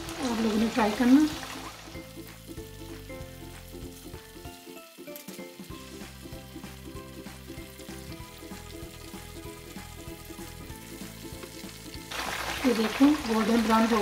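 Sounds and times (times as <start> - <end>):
background music: 0.0 - 14.0
food deep-frying in oil: 0.0 - 14.0.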